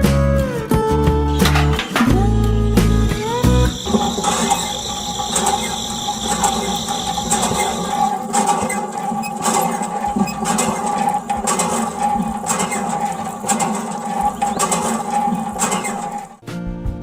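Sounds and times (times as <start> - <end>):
small motor running: 2.8 - 16.4.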